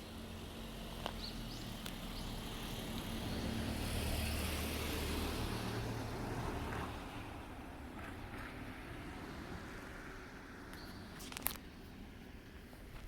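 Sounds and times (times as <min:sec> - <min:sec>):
wheel and rail noise: 0:00.0 - 0:13.0.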